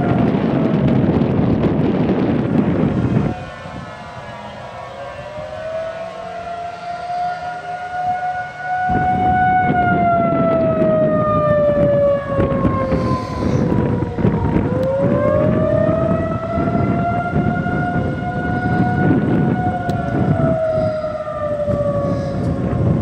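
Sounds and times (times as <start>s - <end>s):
warning siren tone: 0.0s - 23.0s
wind buffeting microphone: 0.0s - 23.0s.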